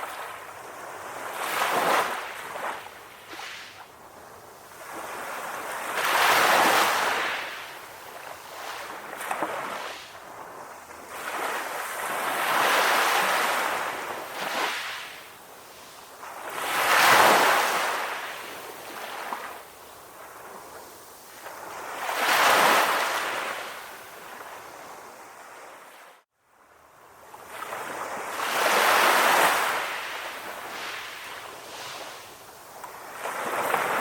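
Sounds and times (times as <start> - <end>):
sea waves breaking: 4.7 - 26.0, 27.4 - 34.0.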